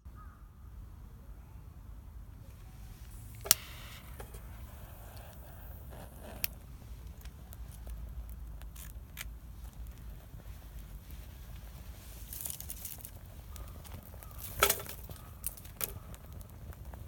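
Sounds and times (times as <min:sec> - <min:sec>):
campfire crackling: 0:02.5 - 0:17.0
sharp pops of fire: 0:02.9 - 0:17.0.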